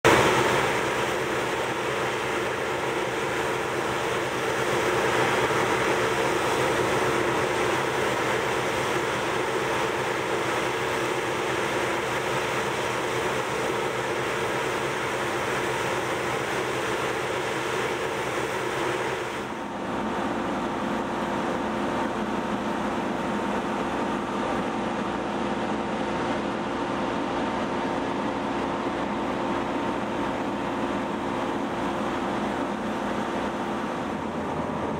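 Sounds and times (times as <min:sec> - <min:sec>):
combine harvester running: 0:00.0 - 0:34.9
auger unloading grain: 0:00.1 - 0:34.9.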